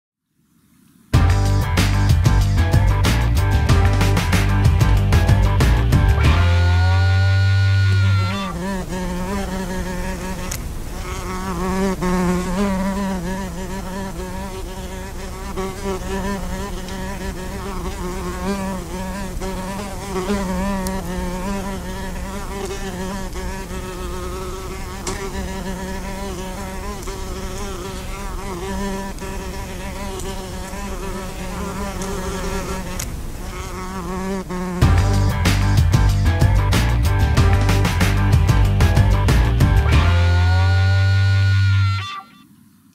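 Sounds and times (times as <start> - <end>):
wasps buzzing: 1.2 - 42.5.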